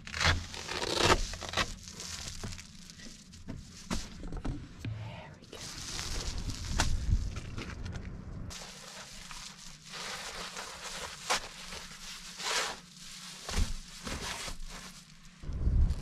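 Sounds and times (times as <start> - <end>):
foil bubble insulation crinkling: 0.0 - 4.4, 5.5 - 16.0.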